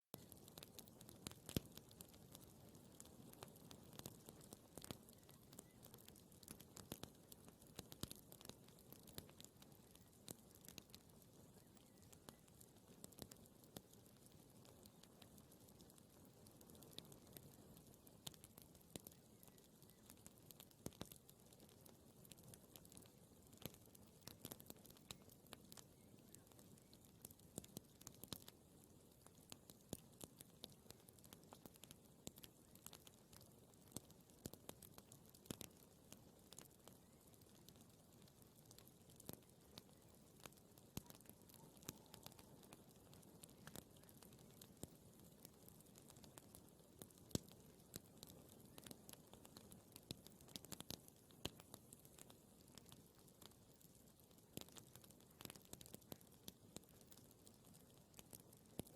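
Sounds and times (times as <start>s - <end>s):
faint steady hiss: 0.0s - 58.9s
campfire crackling: 0.2s - 58.9s.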